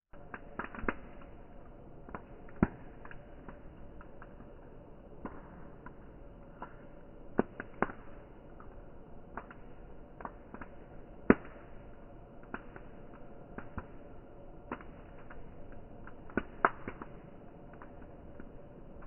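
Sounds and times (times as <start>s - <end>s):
firewood crackling: 0.1s - 19.0s.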